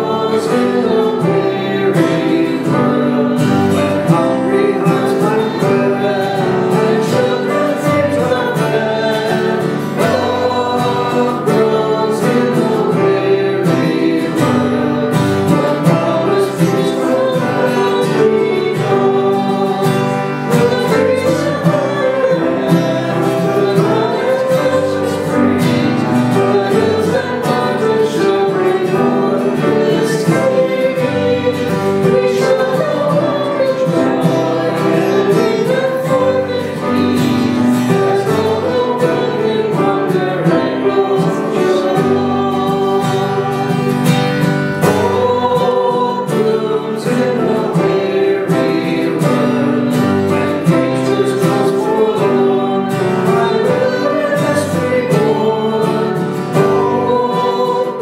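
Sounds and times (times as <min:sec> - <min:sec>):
acoustic guitar strumming: 0:00.0 - 0:58.0
person singing a hymn: 0:00.0 - 0:58.0.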